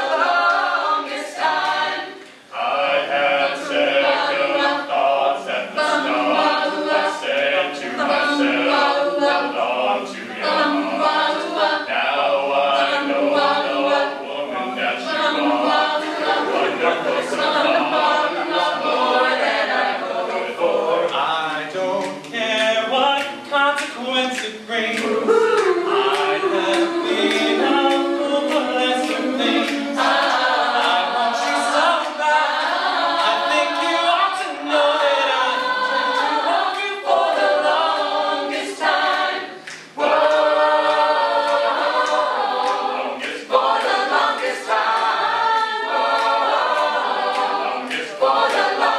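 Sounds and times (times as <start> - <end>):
a cappella group singing in harmony: 0.0 - 48.9.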